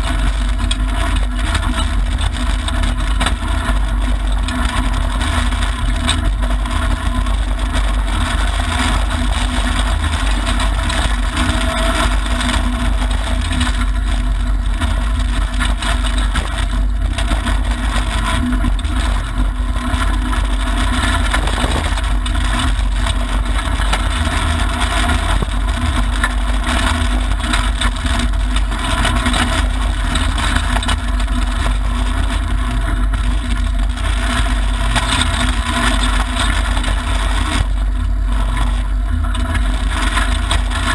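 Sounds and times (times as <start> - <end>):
car engine running: 0.0 - 40.9
tyre and gravel road noise: 0.0 - 40.9.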